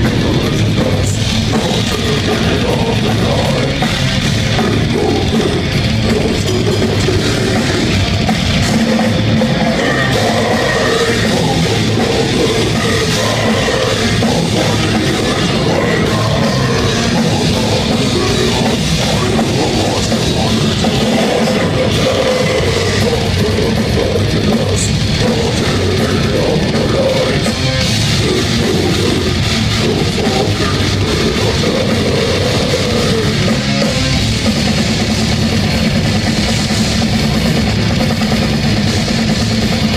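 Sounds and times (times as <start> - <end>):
distorted guitars and bass: 0.0 - 39.9
pounding drum kit: 0.0 - 39.9.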